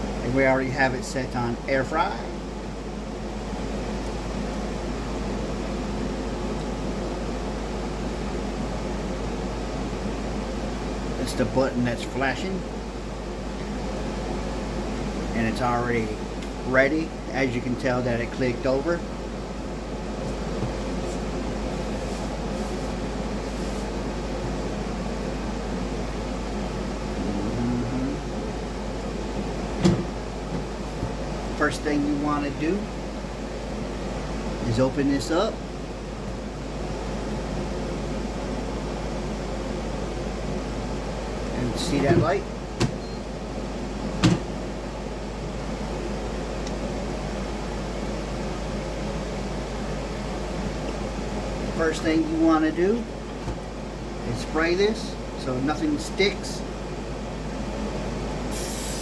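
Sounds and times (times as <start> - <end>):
electric fan whirring: 0.0 - 59.0.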